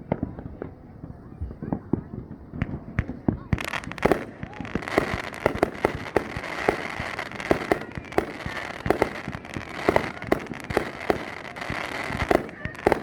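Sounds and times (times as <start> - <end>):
fireworks bangs: 0.0 - 13.0
small fireworks pops: 0.0 - 13.0.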